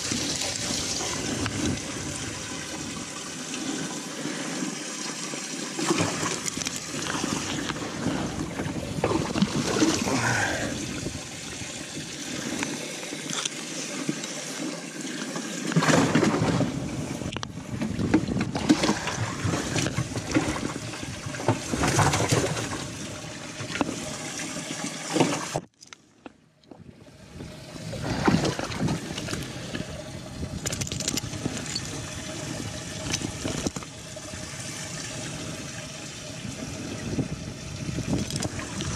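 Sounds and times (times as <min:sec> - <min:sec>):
water splashing and gurgling: 0:00.0 - 0:38.9.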